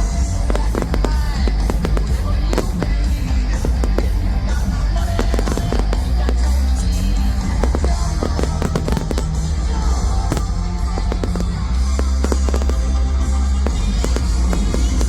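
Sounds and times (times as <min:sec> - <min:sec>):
fireworks bangs and cracks: 0:00.0 - 0:15.0
show music over speakers: 0:00.0 - 0:15.0.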